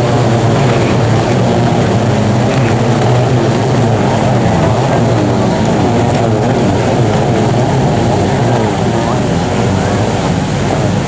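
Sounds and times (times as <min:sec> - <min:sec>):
jet-ski engines racing: 0:00.0 - 0:11.0.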